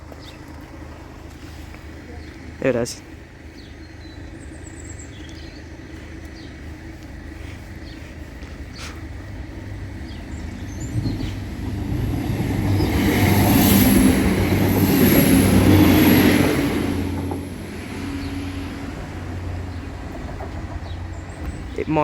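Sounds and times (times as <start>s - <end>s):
diesel train engine: 0.0s - 22.0s
wheel-on-rail rumble: 0.0s - 22.0s.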